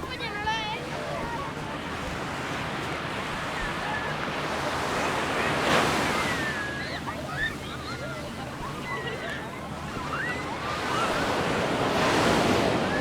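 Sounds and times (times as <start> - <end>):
faint voices: 0.0 - 13.0
waves washing onto beach: 0.0 - 13.0.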